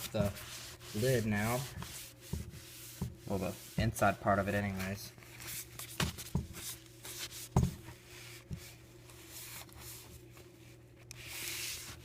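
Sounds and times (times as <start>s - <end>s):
paper towel wiping: 0.0s - 12.0s
steady low hum: 0.0s - 12.0s.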